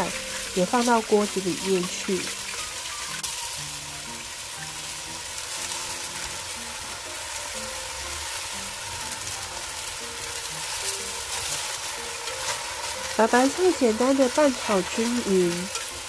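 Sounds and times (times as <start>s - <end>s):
cabbage sizzling in hot oil: 0.0s - 16.0s.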